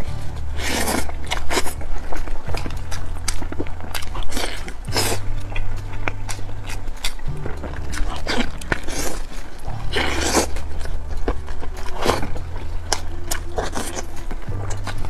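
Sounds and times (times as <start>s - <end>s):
person chewing and biting: 0.0s - 15.0s.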